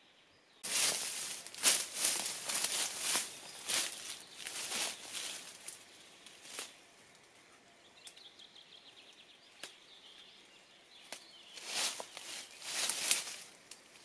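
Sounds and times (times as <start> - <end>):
leaves and undergrowth rustling: 0.6 - 8.2, 9.1 - 14.0.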